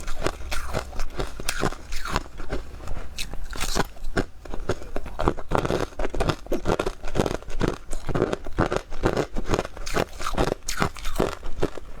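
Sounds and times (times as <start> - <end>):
chewing crisp frost: 0.0 - 11.9.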